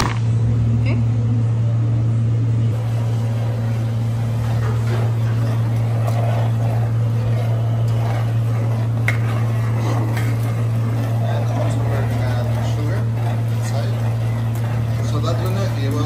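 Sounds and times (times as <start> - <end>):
kitchen equipment hum: 0.0 - 16.0.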